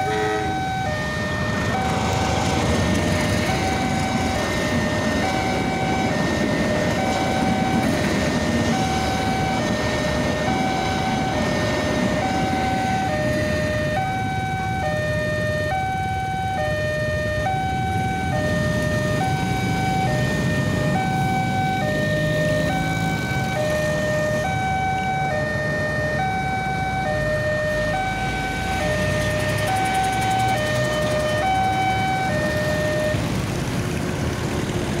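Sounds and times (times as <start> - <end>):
passing train: 0.0 - 35.0
road traffic moving off: 0.0 - 35.0.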